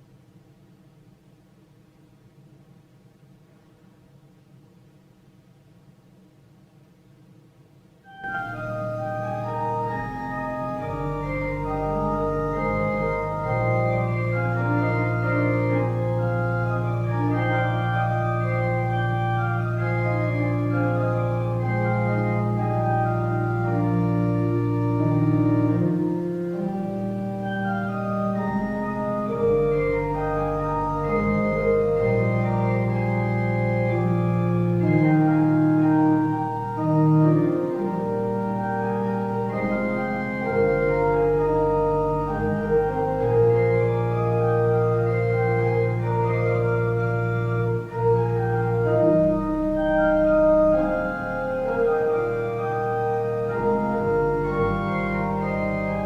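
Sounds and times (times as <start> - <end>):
organ playing slow chords: 8.1 - 56.0.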